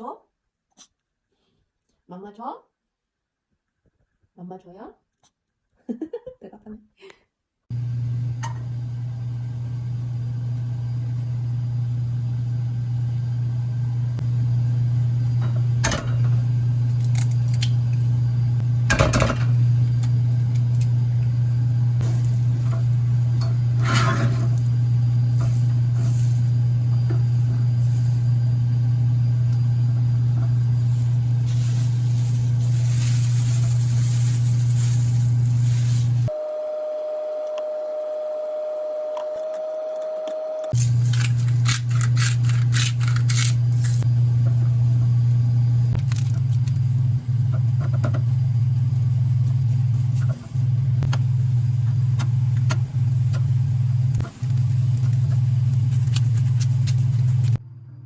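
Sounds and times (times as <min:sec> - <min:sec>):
kitchen appliance humming: 0:07.7 - 0:58.0.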